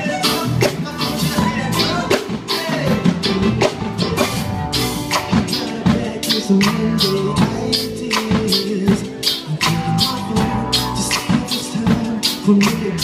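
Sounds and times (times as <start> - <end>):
drum kit beat: 0.0 - 13.0
electric guitars: 0.0 - 13.0
keyboard: 0.0 - 13.0.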